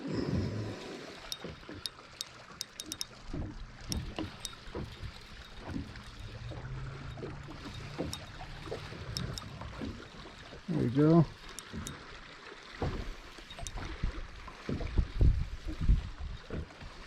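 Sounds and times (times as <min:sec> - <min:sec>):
waves lapping against boat hull: 0:00.0 - 0:17.0.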